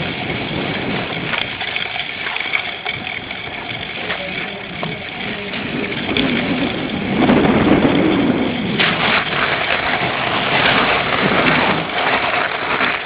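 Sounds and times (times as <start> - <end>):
bike rattling over rough ground: 0.0 - 13.0
wind rushing over microphone: 0.0 - 13.0.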